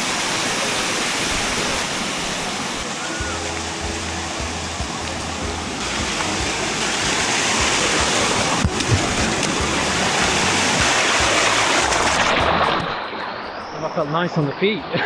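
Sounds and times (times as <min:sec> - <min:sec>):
waterfall cascading over rock: 0:00.0 - 0:13.0.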